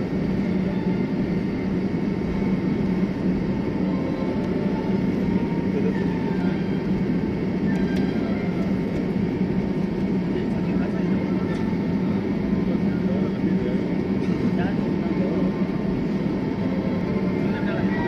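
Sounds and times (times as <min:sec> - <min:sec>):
airliner cabin rumble: 0:00.0 - 0:18.0
low engine hum: 0:00.0 - 0:18.0.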